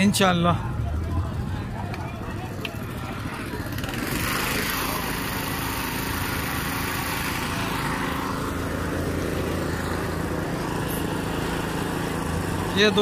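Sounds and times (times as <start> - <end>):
small engine running: 0.7 - 13.0.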